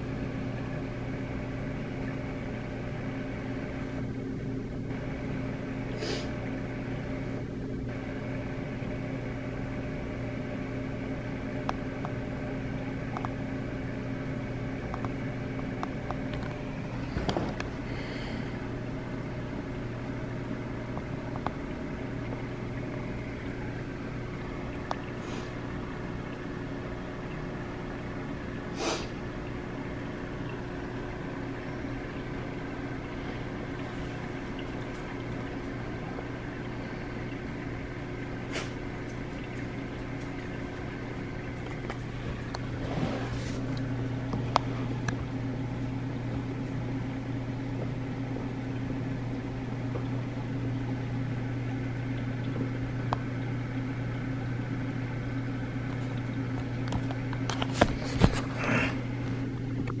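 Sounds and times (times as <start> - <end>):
aquarium pumps humming: 0.0 - 60.0.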